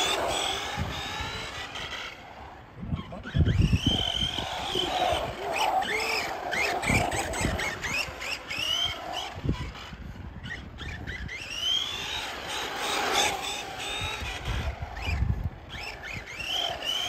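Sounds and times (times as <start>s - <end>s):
rc truck electric motor whining: 0.0s - 17.0s.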